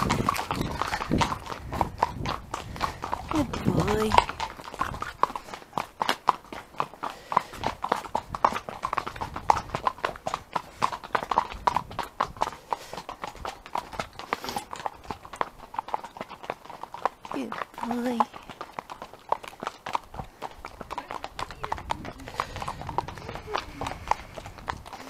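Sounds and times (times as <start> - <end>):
horse hooves clopping: 0.0 - 25.0.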